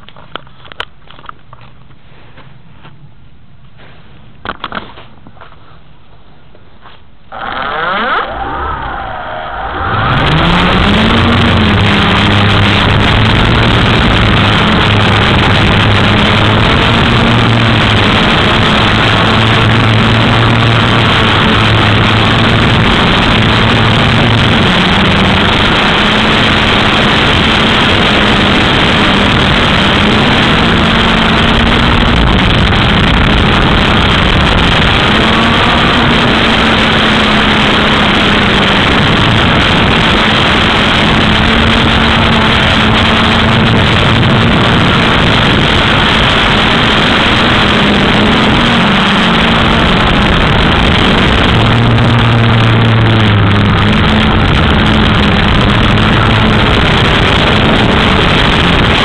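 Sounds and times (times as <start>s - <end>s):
quadcopter drone buzzing: 7.3s - 59.0s.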